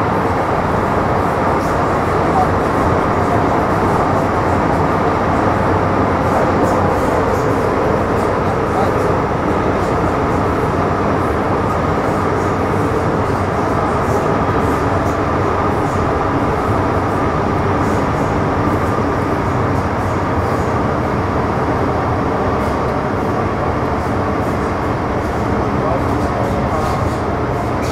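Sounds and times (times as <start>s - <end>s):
train wheels and traction rumble: 0.0s - 27.9s.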